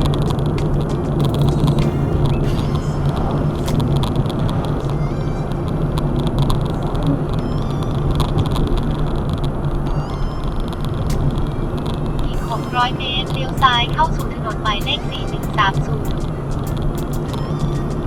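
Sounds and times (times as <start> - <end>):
car engine and tyre drone: 0.0 - 18.0.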